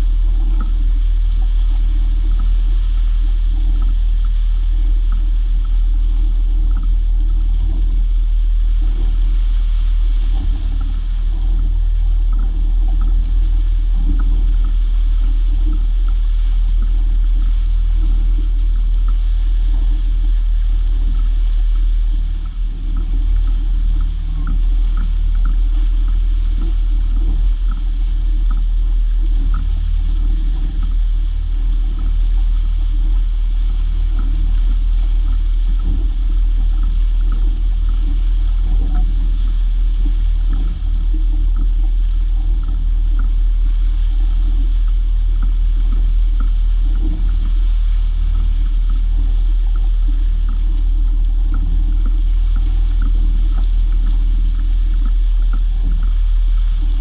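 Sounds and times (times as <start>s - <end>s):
churning wake water hiss: 0.0s - 57.0s
outboard motor droning: 0.0s - 57.0s.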